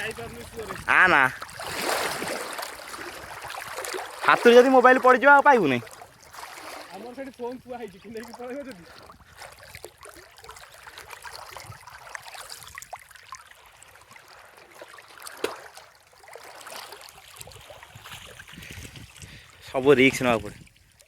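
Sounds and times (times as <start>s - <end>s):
river water trickling: 0.0s - 21.0s
small splashes: 0.0s - 21.0s.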